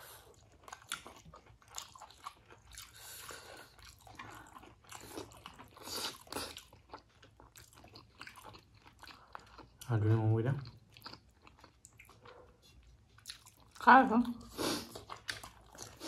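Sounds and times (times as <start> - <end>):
people chewing and smacking: 0.0 - 16.0.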